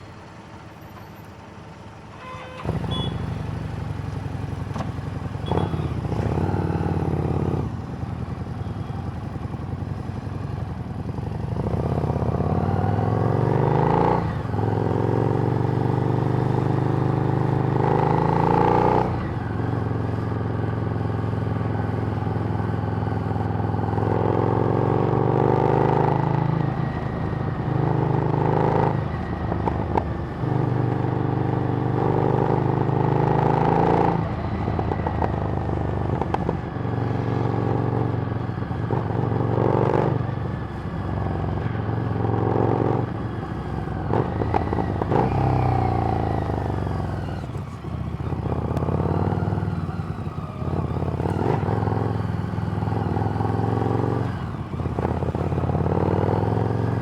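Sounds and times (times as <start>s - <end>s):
motorcycle engine revving: 2.5s - 57.0s.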